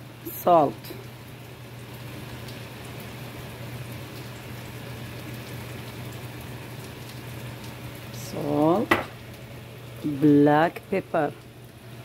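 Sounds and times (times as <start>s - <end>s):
low steady hum: 0.0s - 12.0s
vegetables sizzling in a pan: 0.0s - 12.0s.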